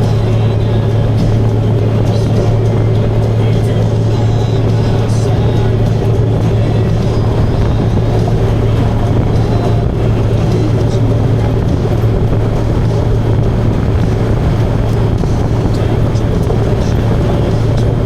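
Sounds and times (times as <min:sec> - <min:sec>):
motorcycle engine running: 0:00.0 - 0:18.0
road noise: 0:00.0 - 0:18.0
rushing wind: 0:00.0 - 0:18.0.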